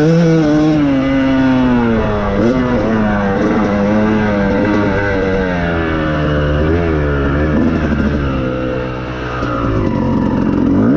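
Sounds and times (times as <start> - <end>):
motocross engine revving: 0.0 - 10.9.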